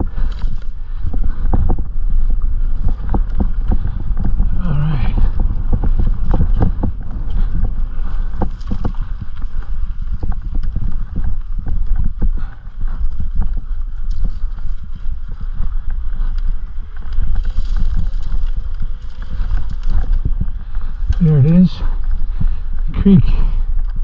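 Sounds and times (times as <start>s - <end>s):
low rumble: 0.0s - 24.0s
mountain bike rattling over trail: 0.0s - 24.0s.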